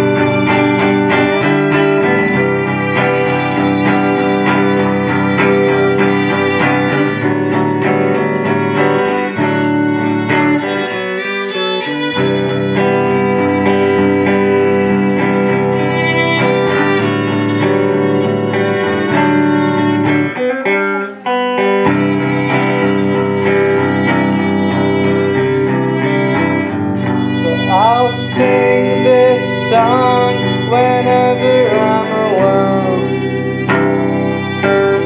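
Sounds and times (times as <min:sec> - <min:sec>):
strummed guitar: 0:00.0 - 0:35.0
violin: 0:00.0 - 0:35.0.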